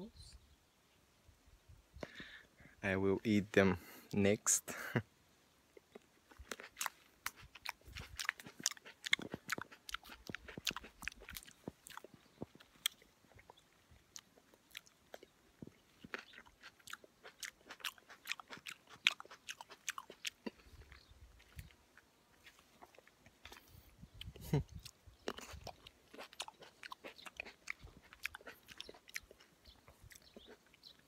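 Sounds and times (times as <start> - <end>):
wet chewing mouth clicks: 5.7 - 31.0.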